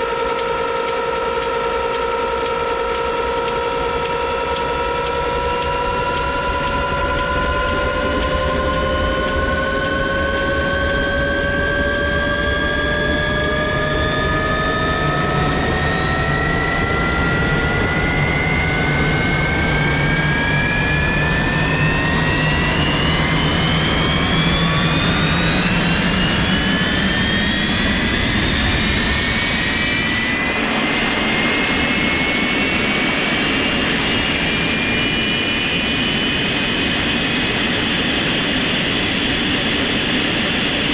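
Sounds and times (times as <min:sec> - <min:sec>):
jet engine spooling up: 0:00.0 - 0:40.9.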